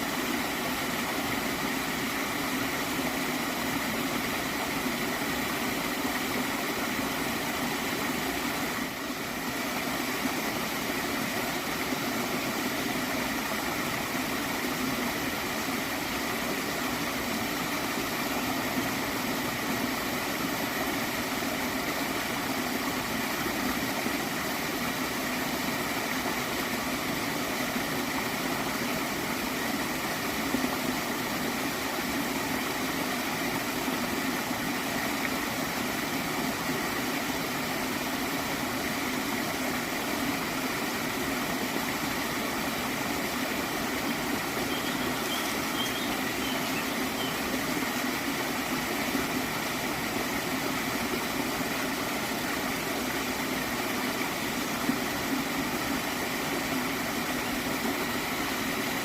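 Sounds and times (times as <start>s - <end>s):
stream flowing and gurgling: 0.0s - 59.0s.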